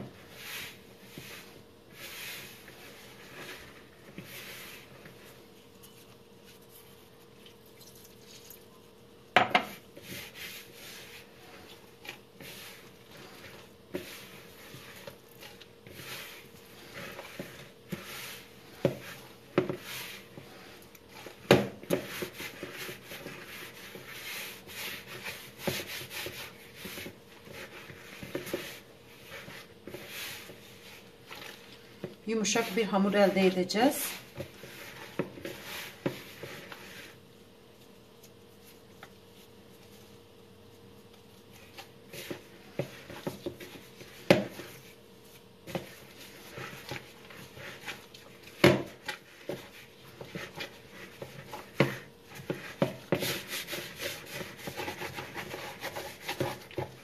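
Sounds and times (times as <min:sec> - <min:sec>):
hands kneading wet dough: 0:00.0 - 0:57.0.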